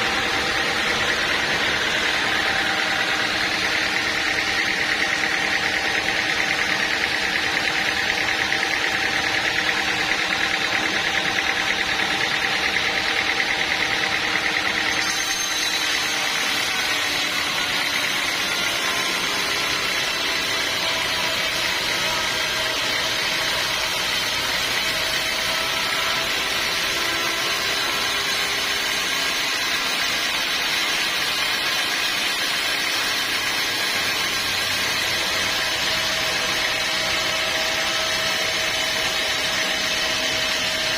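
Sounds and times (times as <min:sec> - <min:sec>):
high machine whine: 0:00.0 - 0:40.9
sawmill machinery running: 0:00.0 - 0:40.9.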